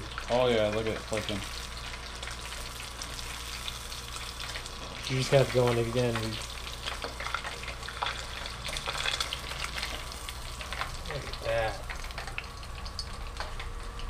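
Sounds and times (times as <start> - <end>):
fish deep-frying in oil: 0.0 - 14.0.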